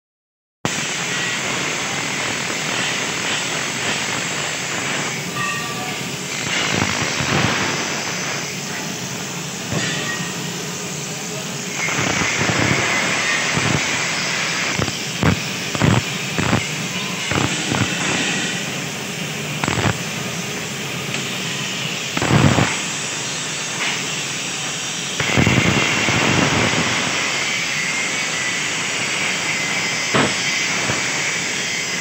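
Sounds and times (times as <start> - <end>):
sharp welding pops: 0.7 - 10.5, 11.7 - 20.1, 21.1 - 31.7
arc welding hiss and crackle: 0.7 - 32.0.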